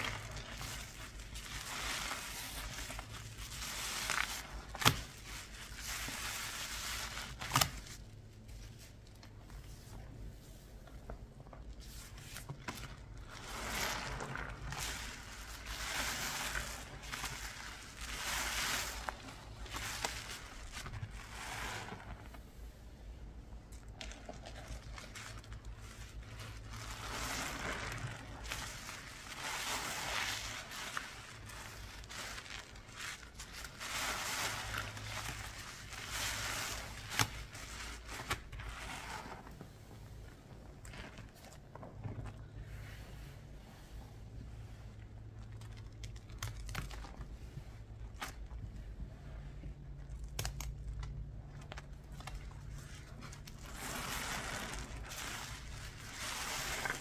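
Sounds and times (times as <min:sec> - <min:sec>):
cleaning paste worked by hand: 0:00.0 - 0:22.8, 0:23.7 - 0:45.4, 0:52.0 - 0:57.0.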